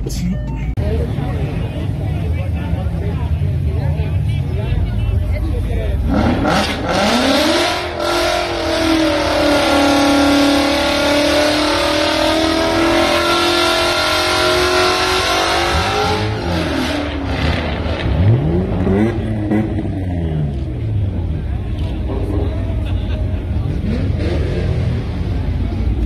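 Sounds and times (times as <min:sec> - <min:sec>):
car engine revving: 0:00.8 - 0:26.0.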